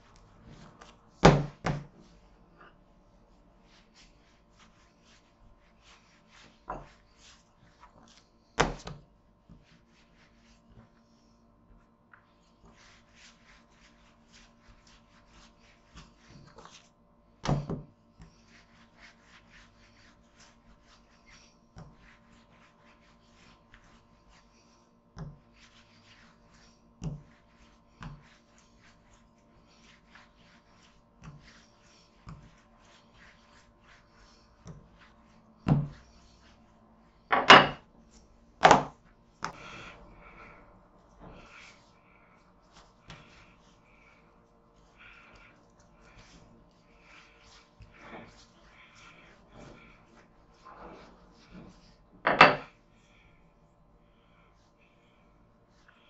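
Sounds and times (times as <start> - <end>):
rolling pin rolling dough: 0.0 - 42.0, 42.6 - 52.8.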